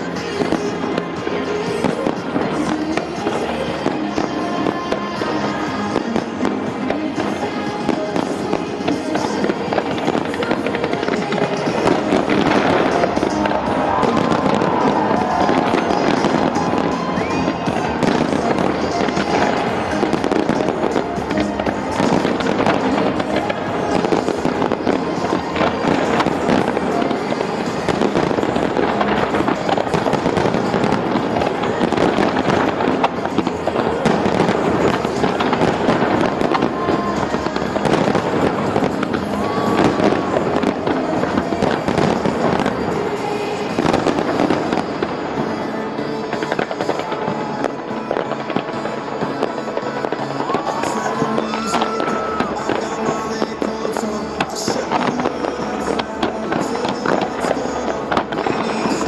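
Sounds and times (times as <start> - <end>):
fireworks bursting and crackling: 0.0 - 59.0
music playing: 0.0 - 59.0.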